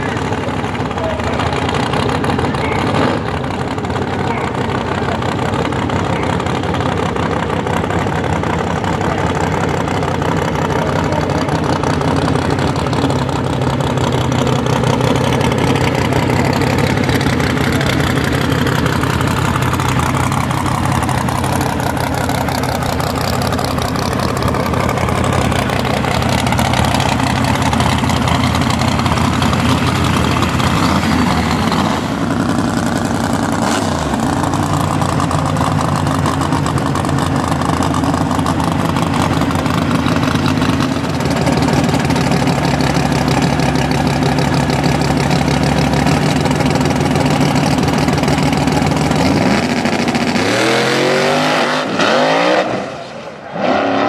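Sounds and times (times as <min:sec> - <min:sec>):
engine idling: 0:00.0 - 0:51.6
supercharger whine: 0:00.0 - 0:54.0.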